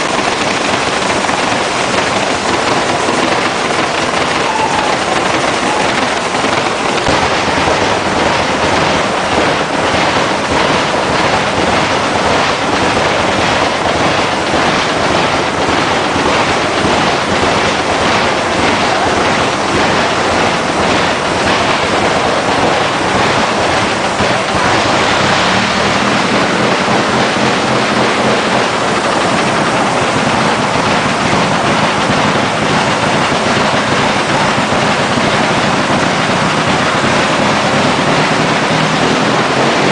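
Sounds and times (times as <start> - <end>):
engine running loud: 0.0 - 39.9.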